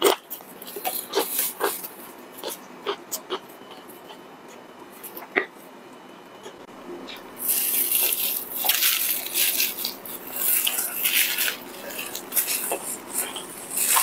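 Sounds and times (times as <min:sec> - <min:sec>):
crackly chewing mouth noise: 0:00.0 - 0:05.6, 0:06.3 - 0:14.0.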